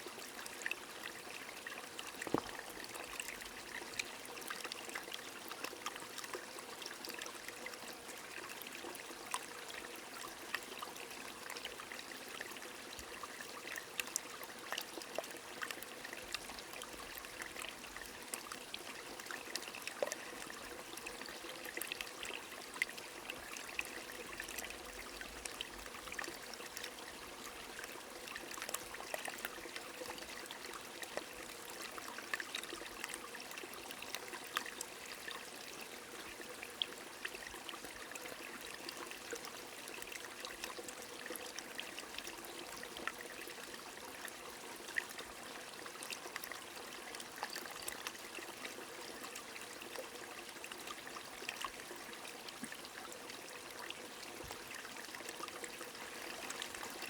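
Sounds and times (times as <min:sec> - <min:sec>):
flowing stream: 0:00.0 - 0:57.0.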